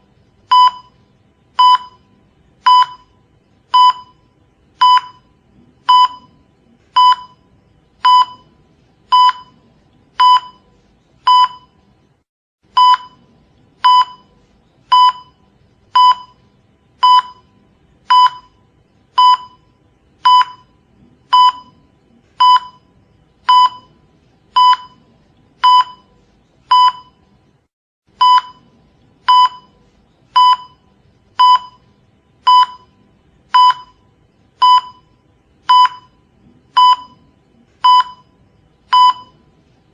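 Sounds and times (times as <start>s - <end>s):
cardiac monitor beeping: 0.5s - 9.6s, 10.2s - 10.7s, 11.3s - 11.8s, 12.8s - 14.3s, 14.9s - 16.4s, 17.0s - 18.6s, 19.2s - 26.1s, 26.7s - 27.3s, 28.2s - 39.5s.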